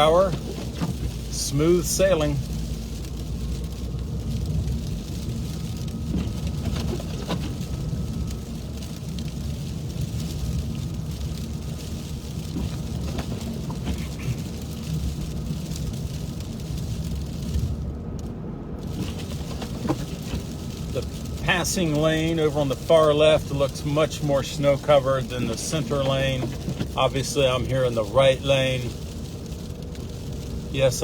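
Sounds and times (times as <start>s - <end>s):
tyres and engine rumble: 0.0s - 31.0s.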